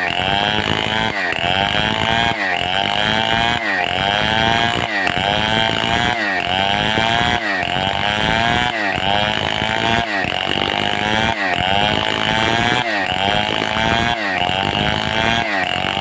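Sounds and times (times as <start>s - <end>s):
chainsaw sawing timber: 0.0s - 16.0s.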